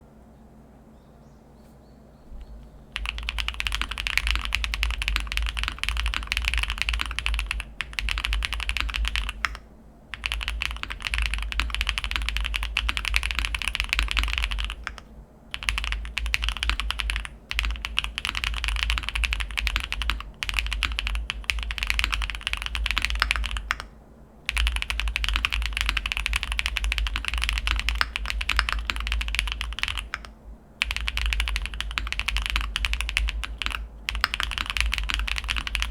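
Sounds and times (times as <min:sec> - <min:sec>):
fast typing on mechanical keyboard: 0:02.9 - 0:35.9.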